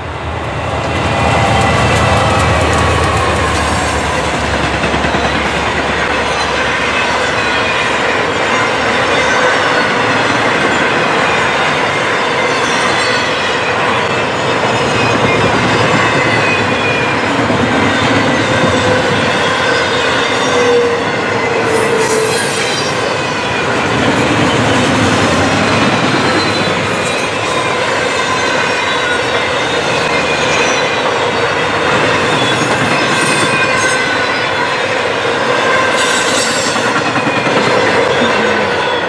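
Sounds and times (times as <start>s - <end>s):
train wheels rumbling and rattling: 0.0s - 39.0s.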